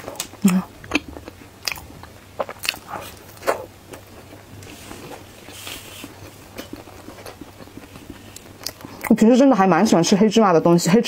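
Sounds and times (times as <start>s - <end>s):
close-up chewing: 0.0s - 9.2s.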